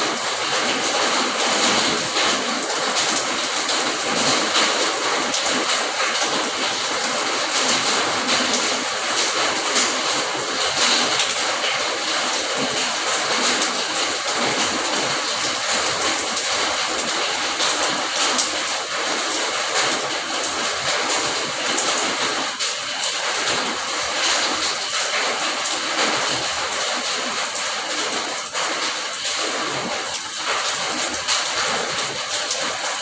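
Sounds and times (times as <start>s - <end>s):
heavy rain falling: 0.0s - 33.0s.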